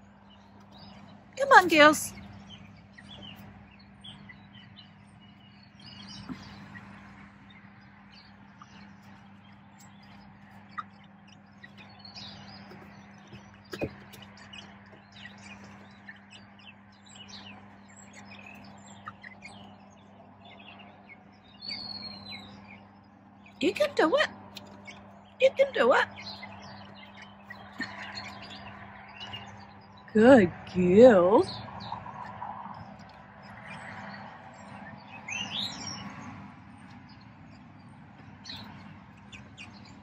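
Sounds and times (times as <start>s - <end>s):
small birds chirping: 0.0s - 40.0s
steady low hum: 0.0s - 40.0s.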